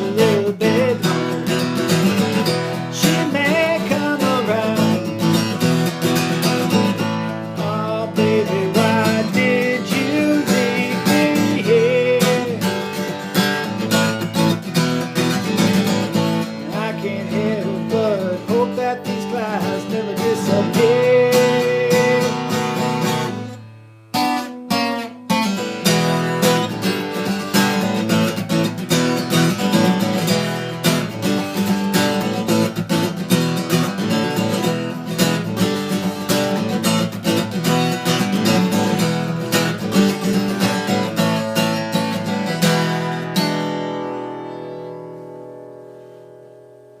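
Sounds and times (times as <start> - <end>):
acoustic guitar strummed: 0.0 - 47.0.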